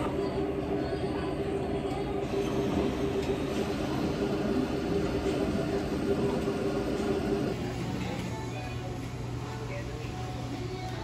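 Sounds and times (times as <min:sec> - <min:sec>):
cafeteria room noise: 0:00.0 - 0:11.0
machinery and ventilation hum: 0:00.0 - 0:11.0.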